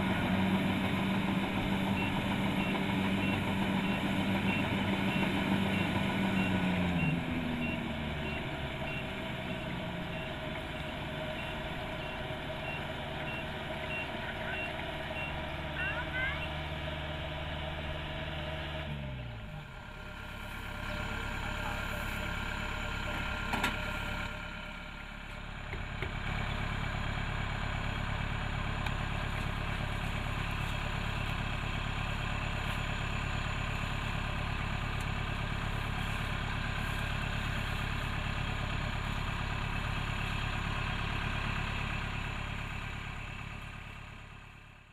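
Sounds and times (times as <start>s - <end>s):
diesel engines idling: 0.0s - 44.9s.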